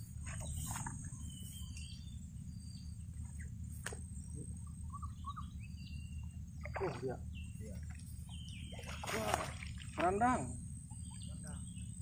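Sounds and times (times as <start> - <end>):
high insect drone: 0.0 - 12.0
low background rumble: 0.0 - 12.0.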